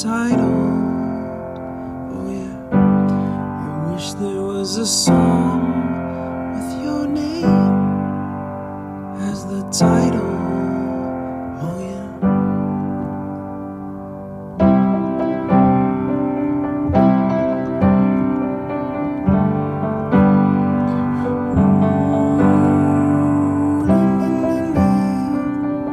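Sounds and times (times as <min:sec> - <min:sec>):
piano chords: 0:00.0 - 0:25.9.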